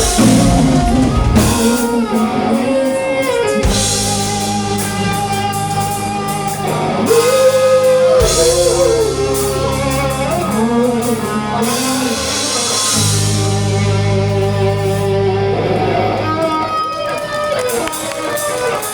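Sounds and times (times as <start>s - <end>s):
electric guitar melody bending: 0.0s - 18.9s
live rock band playing: 0.0s - 18.9s.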